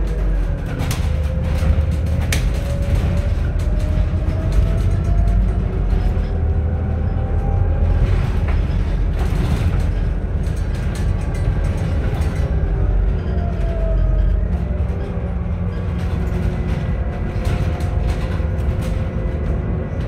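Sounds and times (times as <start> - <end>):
bus engine and road rumble: 0.0 - 20.0
cabin rattles and clicks: 0.0 - 20.0.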